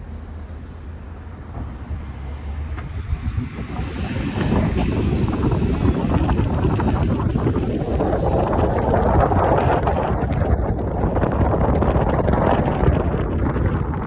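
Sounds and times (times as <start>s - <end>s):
low rumble of car: 0.0s - 14.0s
wind buffeting microphone: 0.0s - 14.0s.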